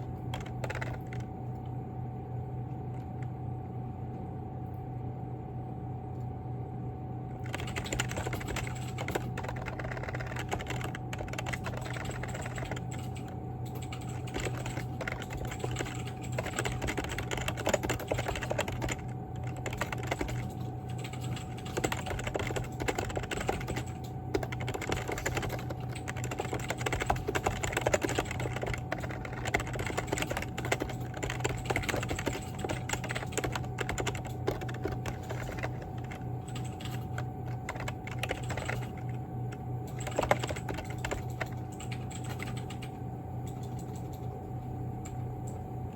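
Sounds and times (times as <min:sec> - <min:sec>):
rapid keyboard typing: 0:00.0 - 0:01.7, 0:07.4 - 0:44.4
steady hum: 0:00.0 - 0:45.9.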